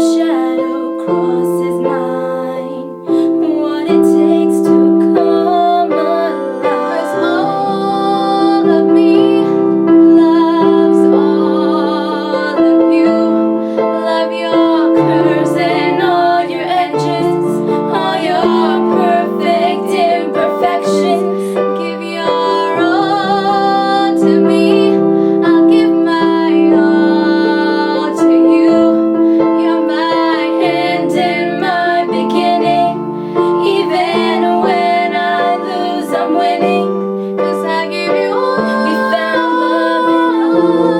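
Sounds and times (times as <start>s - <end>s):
piano accompaniment: 0.0s - 40.9s
woman singing: 0.0s - 40.9s.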